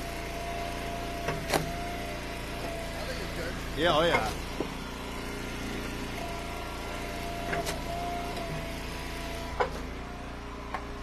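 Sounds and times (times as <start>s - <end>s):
wood splitter engine running: 0.0s - 11.0s.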